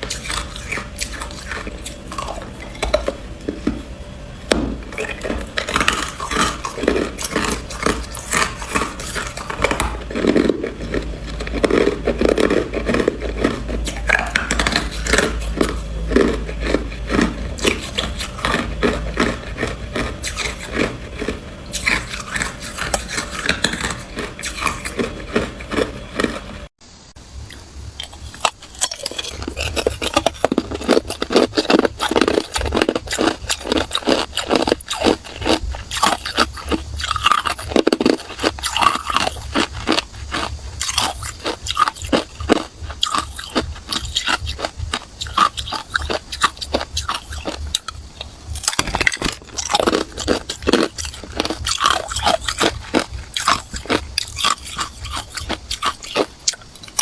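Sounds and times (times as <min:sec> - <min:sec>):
ice being chewed: 0:00.0 - 0:26.7, 0:27.5 - 0:57.0.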